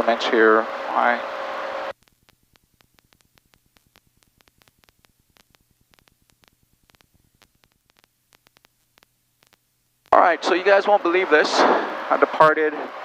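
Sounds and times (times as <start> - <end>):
faint low hum: 0.0 - 13.0
crackling static clicks: 0.9 - 13.0.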